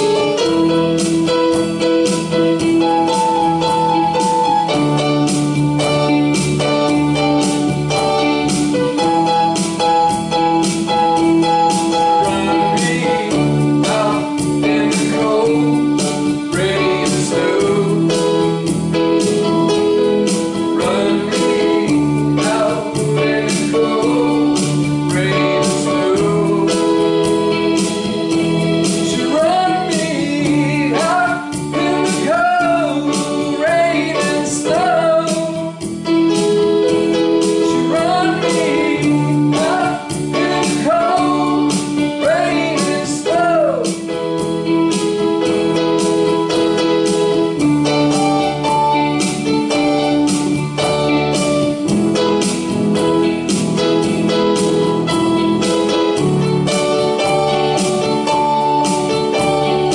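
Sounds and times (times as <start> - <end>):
person singing: 0.0 - 54.8
keyboards: 0.0 - 59.9
rock band music: 0.0 - 59.9.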